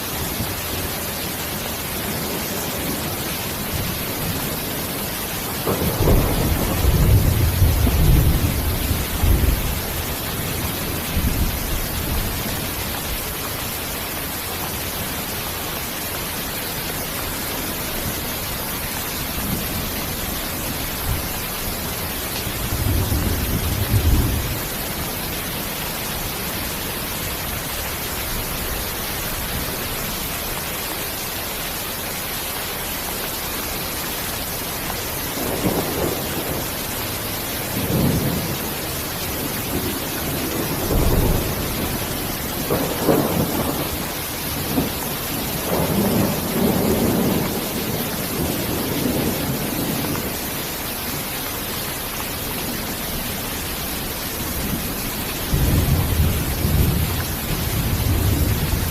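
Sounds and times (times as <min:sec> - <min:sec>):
heavy rain hissing: 0:00.0 - 0:58.9
rolling thunder rumbles: 0:01.7 - 0:14.8, 0:17.2 - 0:30.3, 0:35.2 - 0:50.8, 0:52.4 - 0:58.9.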